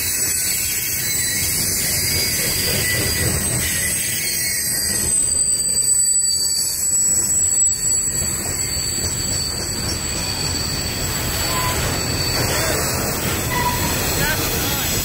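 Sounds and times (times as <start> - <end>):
freight train rumbling past: 0.0 - 15.0
train wheels squealing: 0.0 - 15.0.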